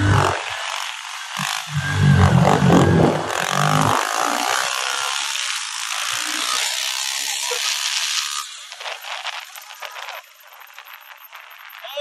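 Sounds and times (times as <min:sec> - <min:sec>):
dirt bike engines buzzing: 0:00.0 - 0:12.0.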